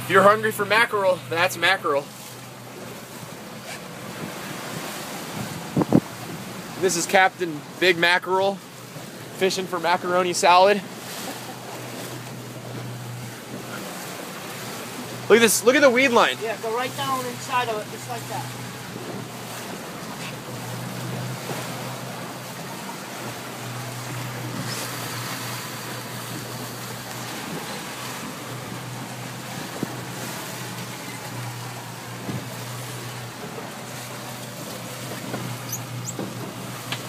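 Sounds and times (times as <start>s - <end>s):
boat engine humming: 0.0s - 37.0s
water rushing past hull: 0.0s - 37.0s.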